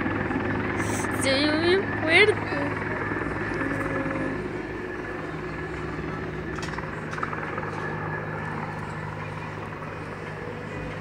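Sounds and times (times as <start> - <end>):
helicopter low drone: 0.0 - 11.0.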